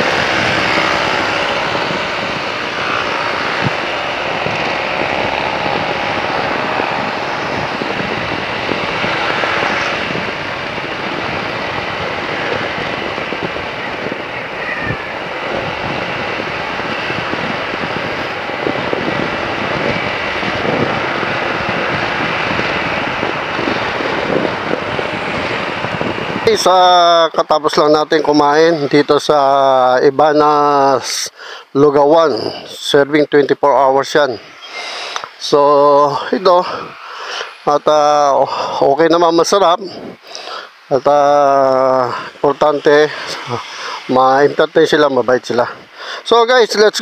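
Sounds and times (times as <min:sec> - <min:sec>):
motorcycle engine drone: 0:00.0 - 0:31.0, 0:33.5 - 0:46.6
wind and road noise: 0:00.0 - 0:47.0.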